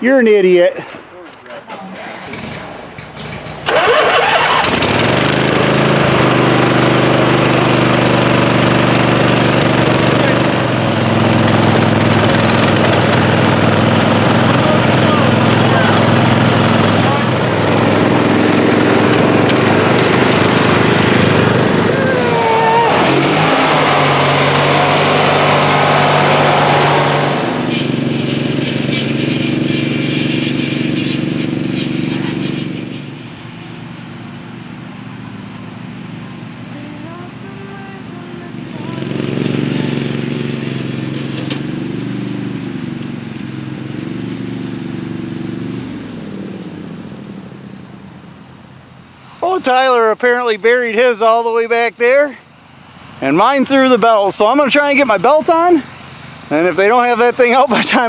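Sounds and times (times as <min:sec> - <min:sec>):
riding lawn mower engines: 0:00.0 - 0:58.0.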